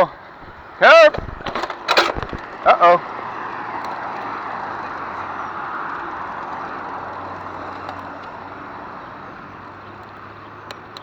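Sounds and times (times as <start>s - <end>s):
bicycle tyres rolling on trail: 0.0s - 11.0s
wind rushing past camera: 0.0s - 11.0s.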